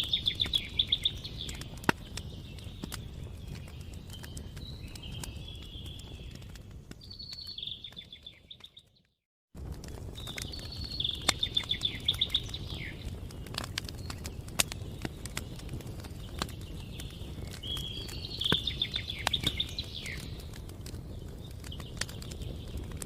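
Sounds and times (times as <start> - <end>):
songbird singing trills: 0.0 - 9.0, 10.2 - 22.9
campfire crackling and popping: 0.0 - 23.0.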